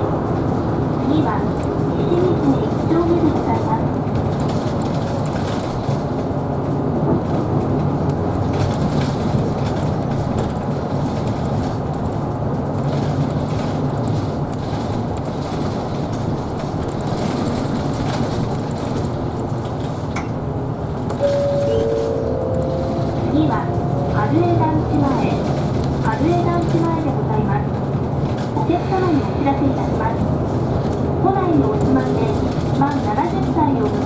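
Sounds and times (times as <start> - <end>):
bus drivetrain and road hum: 0.0 - 34.0.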